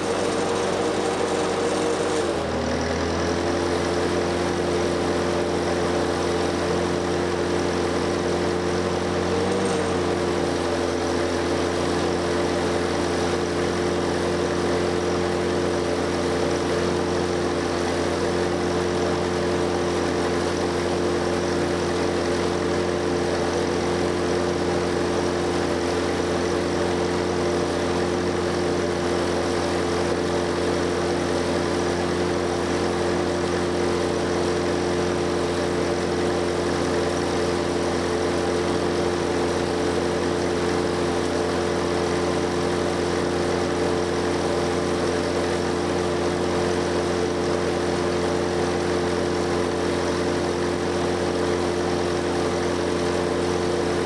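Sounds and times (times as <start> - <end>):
gasoline engine running: 0.0 - 54.0.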